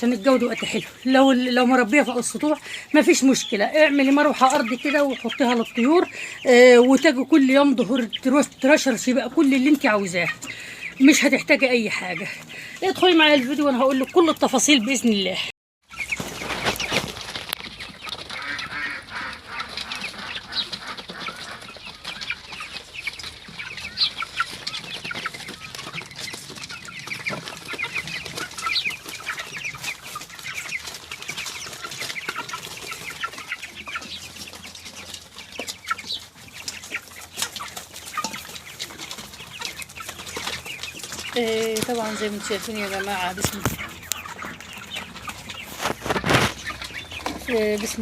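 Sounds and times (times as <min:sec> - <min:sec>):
chickens clucking and cheeping: 0:00.0 - 0:48.0.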